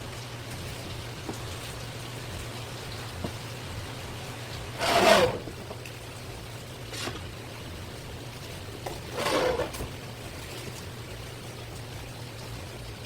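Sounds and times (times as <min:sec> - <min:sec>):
gush of water: 0:00.0 - 0:13.0
water running and splashing: 0:00.0 - 0:13.0.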